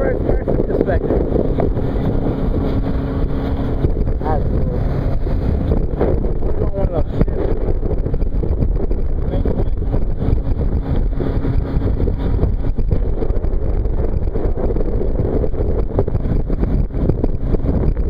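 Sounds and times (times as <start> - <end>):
motorboat engine: 0.0 - 18.0
water rushing: 0.0 - 18.0
wind buffeting microphone: 0.0 - 18.0.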